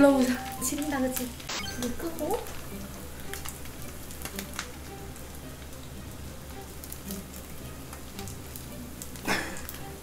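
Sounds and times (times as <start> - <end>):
rice balls sizzling in frying pan: 0.0 - 10.0.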